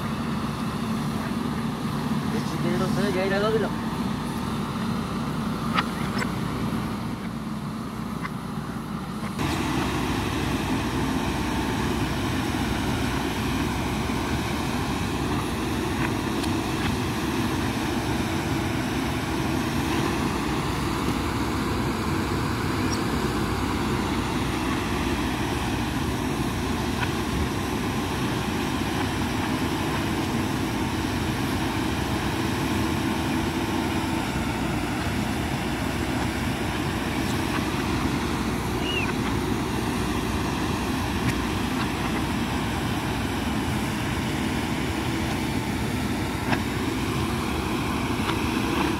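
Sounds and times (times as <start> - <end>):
diesel engines droning: 0.0 - 48.9.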